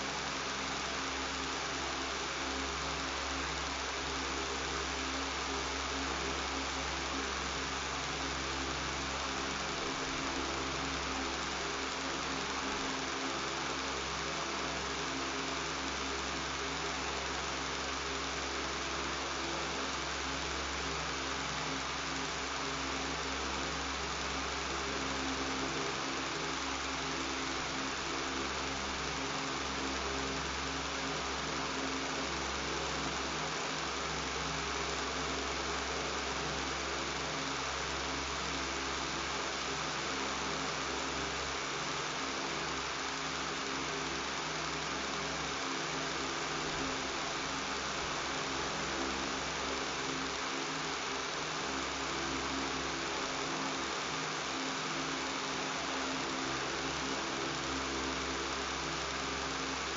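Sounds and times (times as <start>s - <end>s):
electric fan running: 0.0s - 59.9s
low electrical buzz: 0.0s - 59.9s.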